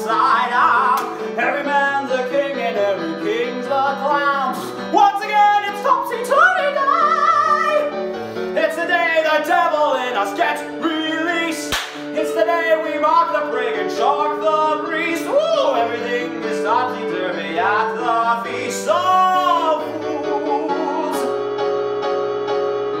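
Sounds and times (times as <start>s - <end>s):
man singing show tune: 0.0s - 7.2s, 7.8s - 21.6s
instrumental backing track: 0.0s - 23.0s.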